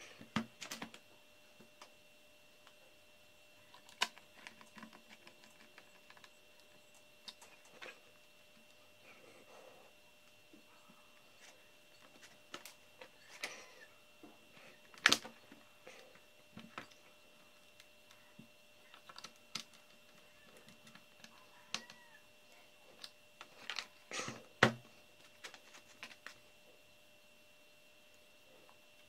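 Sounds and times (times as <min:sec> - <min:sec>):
faint high whine: 0:00.0 - 0:29.0.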